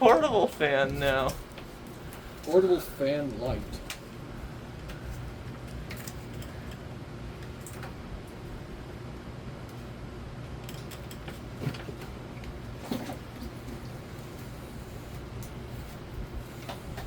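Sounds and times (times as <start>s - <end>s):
ceiling fan whirring: 0.0s - 17.0s.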